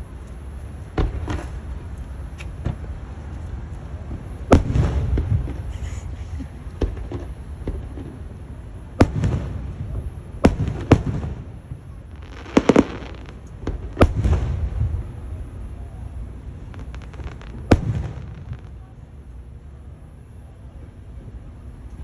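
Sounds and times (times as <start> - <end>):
fireworks crackling: 0.0 - 20.1
fireworks banging: 0.8 - 3.0, 3.8 - 19.5.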